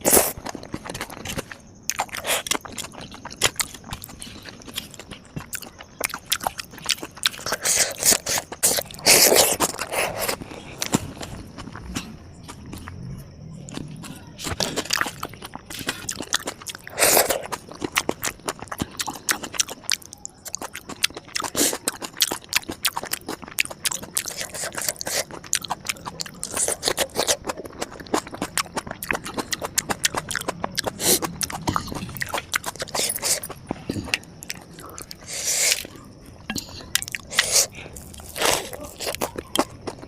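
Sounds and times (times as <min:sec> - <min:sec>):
crunching and chewing crisp food: 0:00.0 - 0:40.0.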